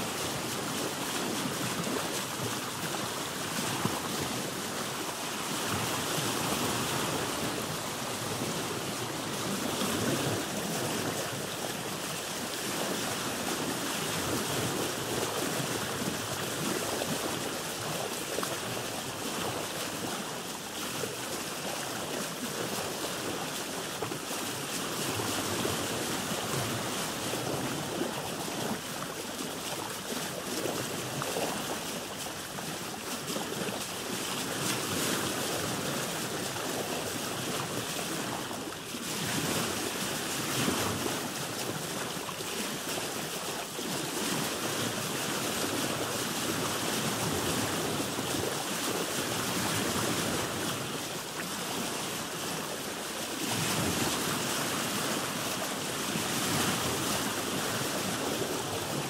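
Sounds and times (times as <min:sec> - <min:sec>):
ocean water washing around a boat: 0:00.0 - 0:59.0.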